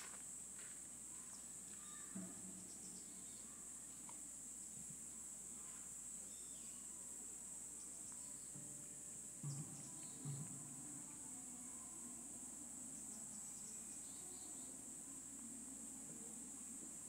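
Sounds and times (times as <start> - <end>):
faint ticks and rustles: 0.0 - 17.0
insects chirring: 0.0 - 17.0.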